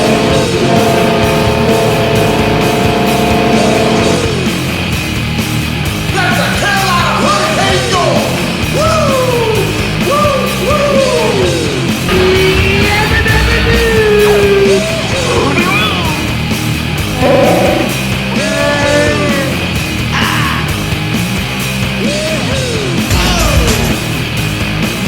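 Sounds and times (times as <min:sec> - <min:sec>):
loud rock music with yelled vocals: 0:00.0 - 0:25.0.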